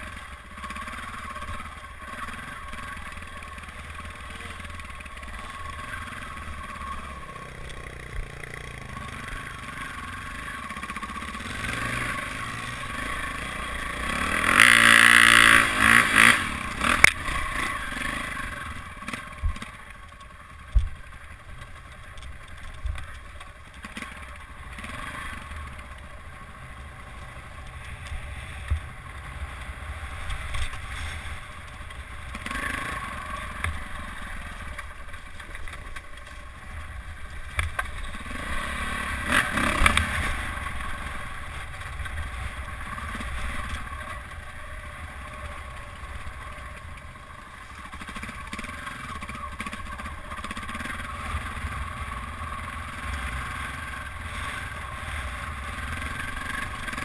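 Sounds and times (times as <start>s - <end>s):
dirt bike engine revving: 0.0s - 19.8s, 23.8s - 25.9s, 28.1s - 35.0s, 37.9s - 57.0s.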